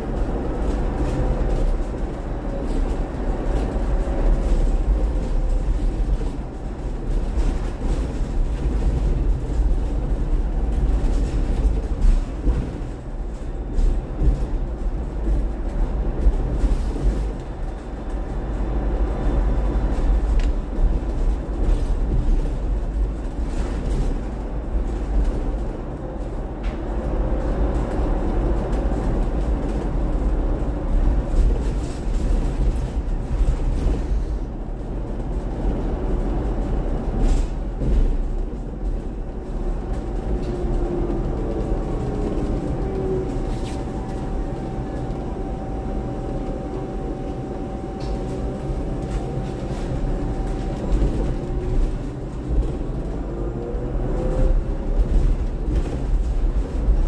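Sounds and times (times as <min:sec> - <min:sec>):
bus body knocks and rattles: 0:00.0 - 0:57.0
bus road rumble: 0:00.0 - 0:57.0.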